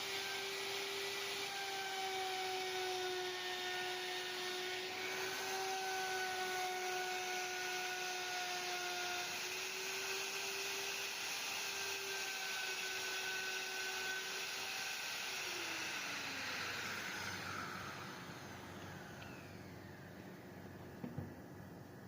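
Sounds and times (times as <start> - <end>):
power tool whining: 0.0 - 21.3.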